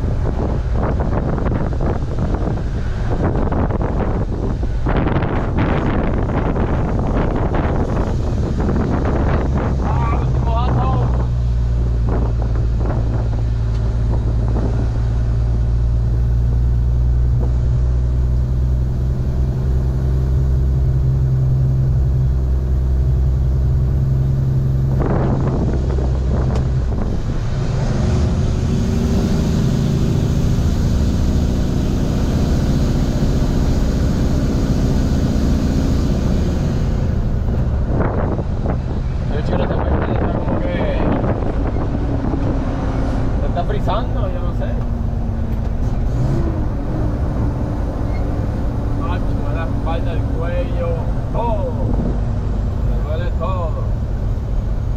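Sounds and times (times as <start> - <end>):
diesel truck engine droning: 0.0 - 54.9.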